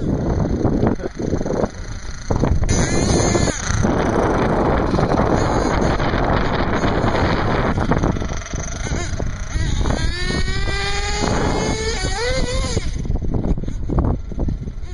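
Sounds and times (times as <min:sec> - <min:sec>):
model engine whining: 0:00.0 - 0:14.9
wind on microphone: 0:00.0 - 0:14.9.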